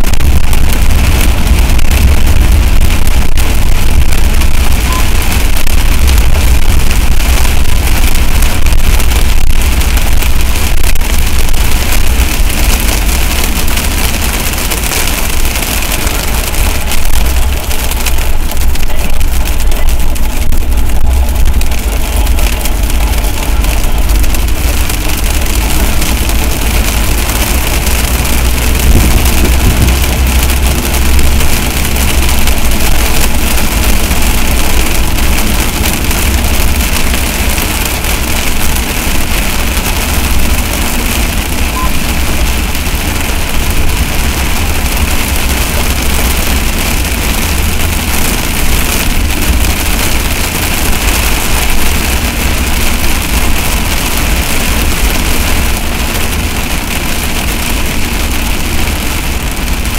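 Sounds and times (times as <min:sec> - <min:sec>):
heavy rain on a vehicle: 0:00.0 - 0:59.9
low rumble: 0:00.0 - 0:59.9.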